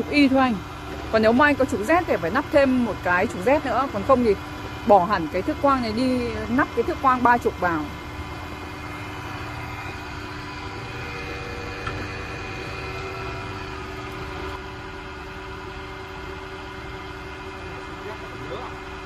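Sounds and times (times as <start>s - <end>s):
electric motor humming: 0.0s - 19.0s.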